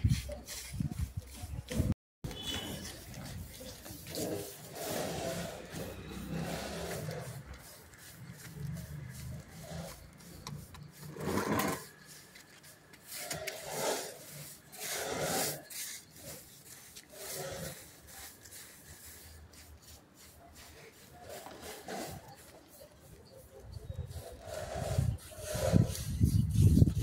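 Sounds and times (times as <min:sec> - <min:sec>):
hand tool rubbing a surface: 0:00.0 - 0:27.0.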